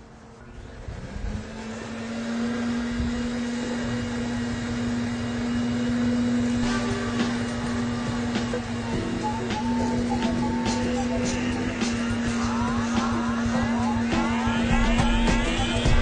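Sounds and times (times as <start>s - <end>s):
insulation blowing machine running: 0.0s - 16.0s
air rushing through hose: 0.8s - 16.0s.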